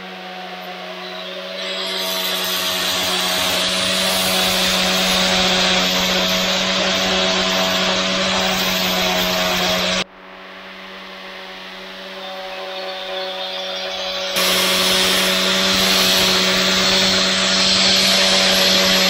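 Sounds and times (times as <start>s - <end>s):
grinder motor hum: 0.0s - 19.0s
angle grinder grinding metal: 0.6s - 10.1s, 11.5s - 19.0s.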